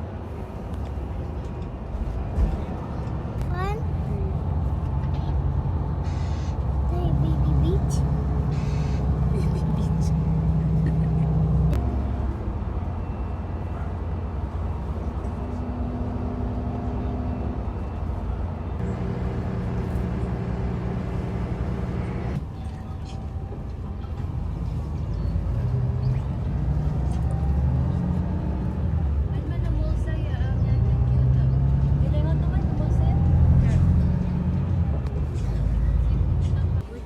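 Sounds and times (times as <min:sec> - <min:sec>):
vehicle engine rumble: 0:00.0 - 0:37.0.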